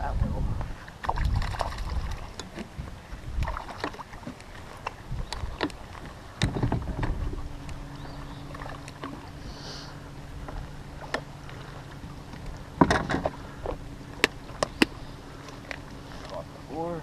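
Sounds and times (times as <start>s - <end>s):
low rumble: 0.0s - 3.9s, 4.6s - 17.0s
steady low hum: 0.0s - 17.0s.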